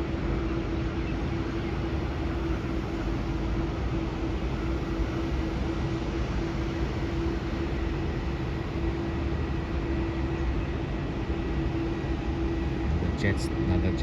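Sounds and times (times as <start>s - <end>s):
airport background rumble: 0.0s - 14.0s
constant low hum: 0.0s - 14.0s.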